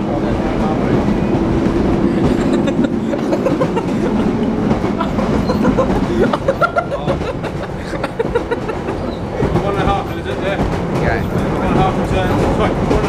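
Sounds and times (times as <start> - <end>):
train rumbling: 0.0 - 13.0
wheels rattling and clicking: 0.0 - 13.0.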